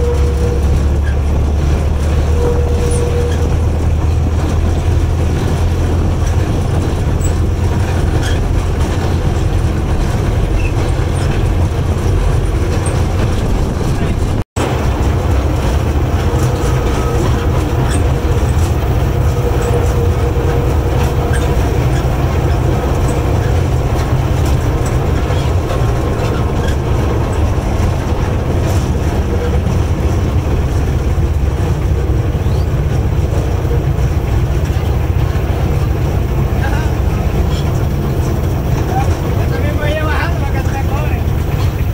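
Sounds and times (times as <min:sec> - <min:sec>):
train rumbling on tracks: 0:00.0 - 0:41.9
wheels clicking and rattling: 0:00.0 - 0:41.9.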